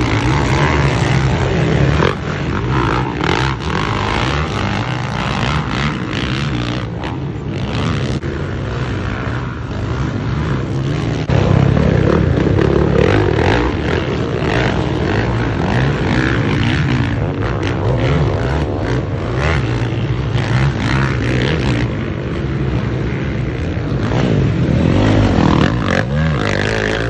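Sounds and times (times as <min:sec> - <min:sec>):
motocross bikes revving: 0:00.0 - 0:27.0.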